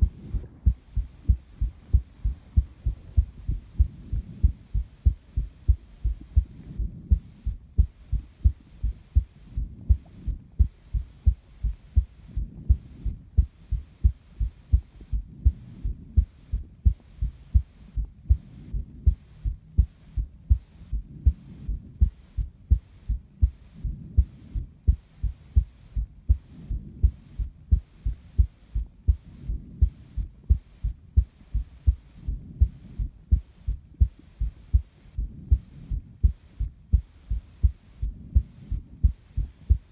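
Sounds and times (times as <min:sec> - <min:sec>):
heartbeat low thuds: 0:00.0 - 0:39.9
soft breathing: 0:00.0 - 0:39.9.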